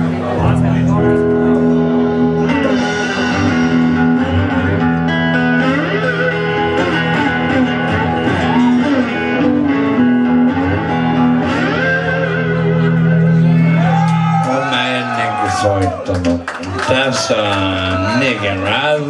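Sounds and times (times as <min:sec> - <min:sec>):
low bass notes: 0:00.0 - 0:16.8
electric guitars playing: 0:00.0 - 0:19.0.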